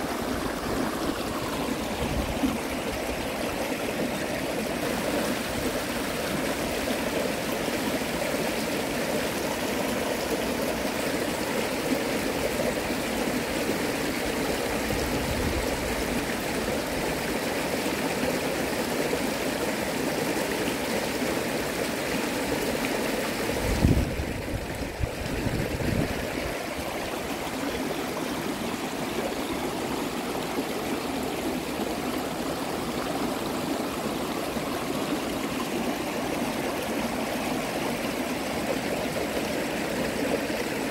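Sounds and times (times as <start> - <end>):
creek rushing over rocks: 0.0 - 40.9.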